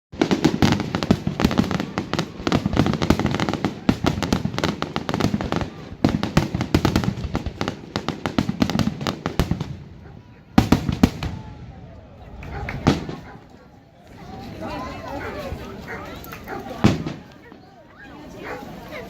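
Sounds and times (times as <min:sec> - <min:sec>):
fireworks bangs and crackles: 0:00.1 - 0:17.7.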